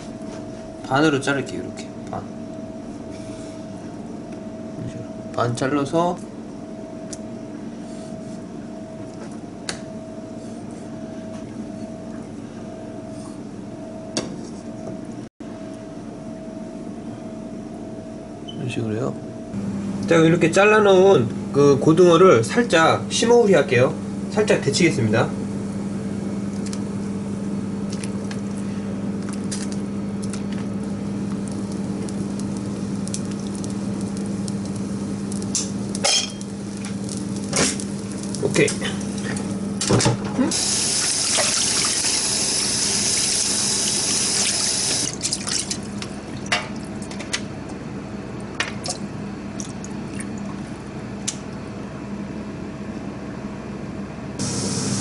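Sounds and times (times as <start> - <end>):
machine hum with held tone: 0.0 - 55.0.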